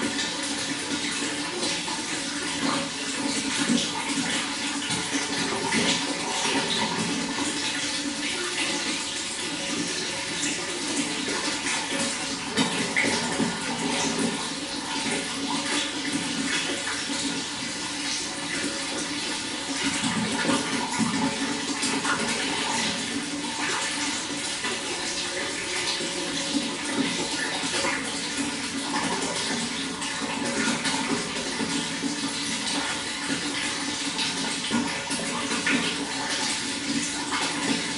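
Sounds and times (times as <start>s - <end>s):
water splashing and gurgling: 0.0s - 37.9s.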